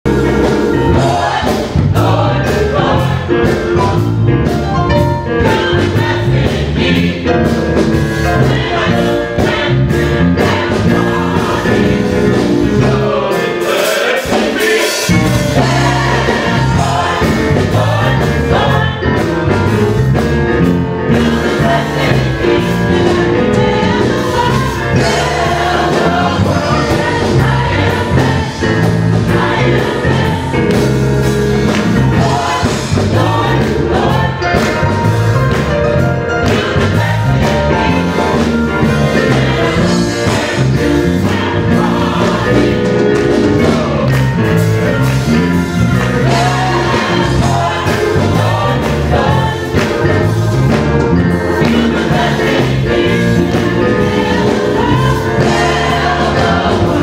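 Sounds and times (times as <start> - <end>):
gospel choir singing: 0.0 - 57.0.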